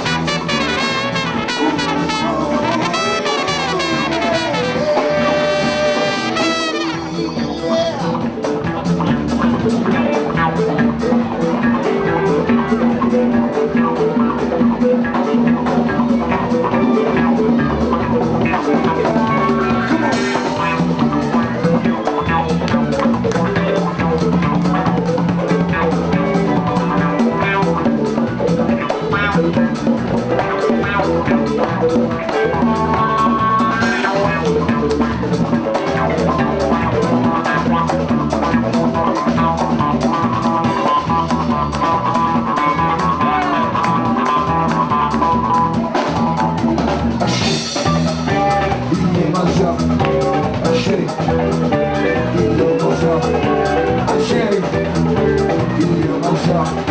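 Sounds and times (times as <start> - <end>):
drums and hand percussion: 0.0 - 56.9
latin band playing: 0.0 - 56.9.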